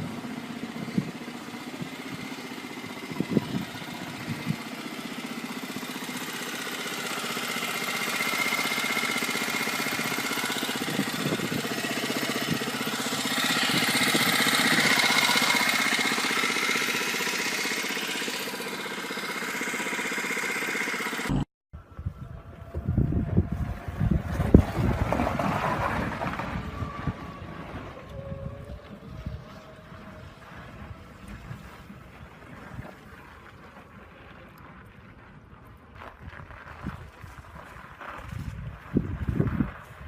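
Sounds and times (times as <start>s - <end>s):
small car engine running: 0.0s - 35.7s.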